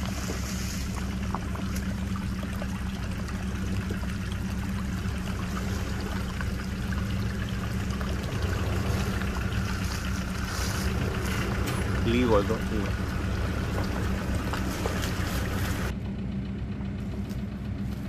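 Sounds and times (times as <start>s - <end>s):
off-road vehicle engine at low revs: 0.0s - 18.0s.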